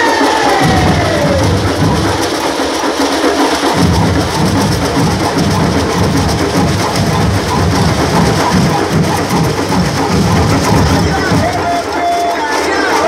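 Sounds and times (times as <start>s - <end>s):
percussion group drumming: 0.0s - 13.0s.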